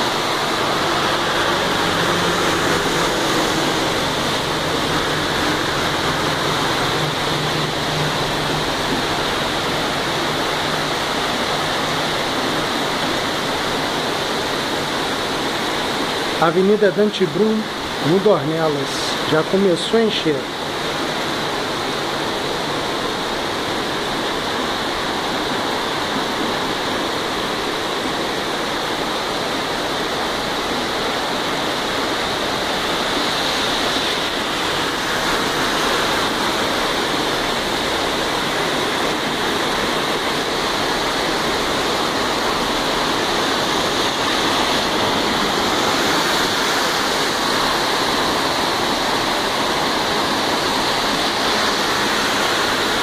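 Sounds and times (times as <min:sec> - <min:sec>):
heavy rain falling: 0:00.0 - 0:53.0
water running on a street: 0:00.0 - 0:53.0.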